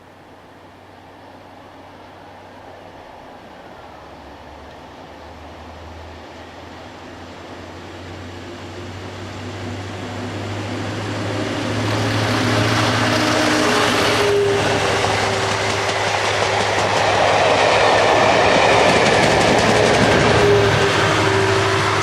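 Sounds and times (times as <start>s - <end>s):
diesel locomotives approaching: 0.0s - 22.0s.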